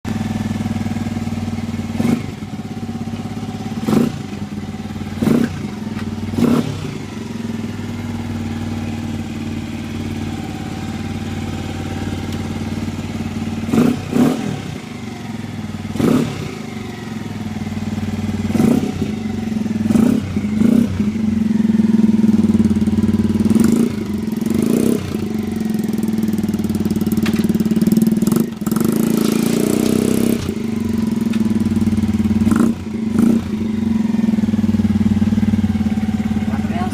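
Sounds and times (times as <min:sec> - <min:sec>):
motorcycle engine idling: 0:00.1 - 0:36.9.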